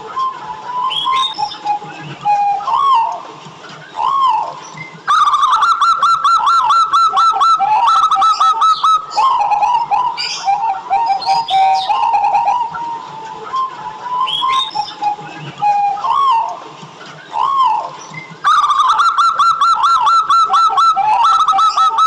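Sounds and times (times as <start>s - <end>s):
dove cooing: 0.0s - 3.2s, 3.9s - 16.6s, 17.2s - 22.0s
high bird chirps: 0.9s - 3.2s, 3.9s - 13.0s, 14.2s - 16.5s, 17.2s - 22.0s.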